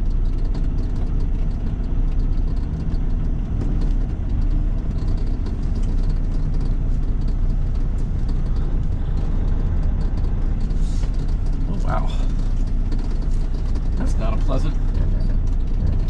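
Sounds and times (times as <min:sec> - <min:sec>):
diesel truck engine rumble: 0:00.0 - 0:16.0.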